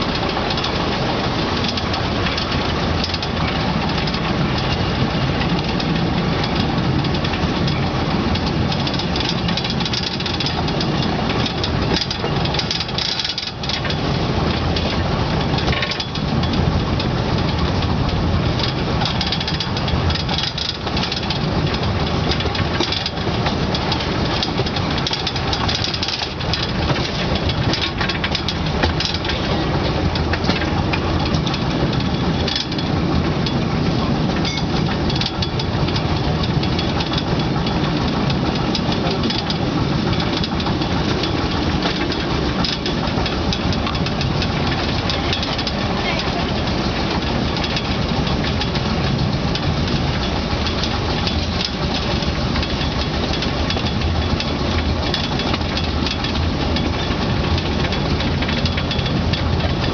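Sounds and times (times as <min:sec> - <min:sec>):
locomotive engine: 0:00.0 - 0:59.9
wagon rattling on track: 0:00.0 - 0:59.9.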